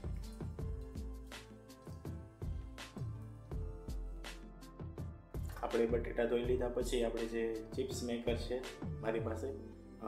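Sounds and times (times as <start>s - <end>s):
instrumental music with steady beat: 0.0s - 9.6s.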